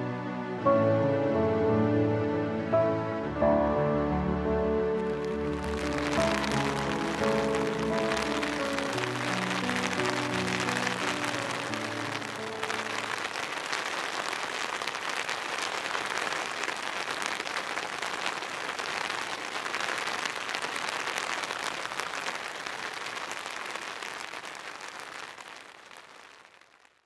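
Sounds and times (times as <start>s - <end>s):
rain on tent fabric: 4.9s - 27.0s.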